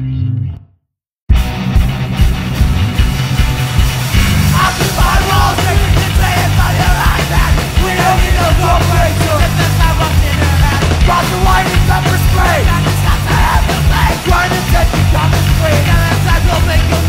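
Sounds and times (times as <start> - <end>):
punk band distorted guitars: 1.3 - 17.0.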